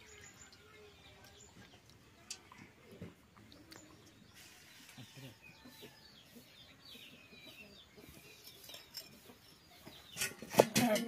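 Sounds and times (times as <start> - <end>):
faint chicken clucks: 0.6 - 10.1.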